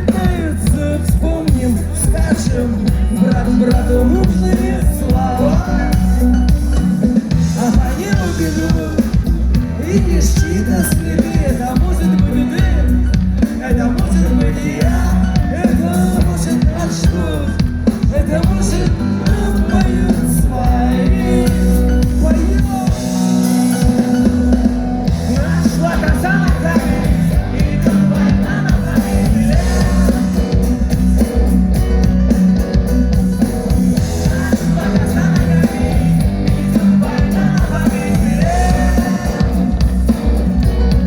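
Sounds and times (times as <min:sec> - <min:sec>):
person singing: 0:00.0 - 0:06.6, 0:07.2 - 0:31.4, 0:34.0 - 0:40.4
drum kit: 0:00.0 - 0:41.0
guitar: 0:00.0 - 0:41.0.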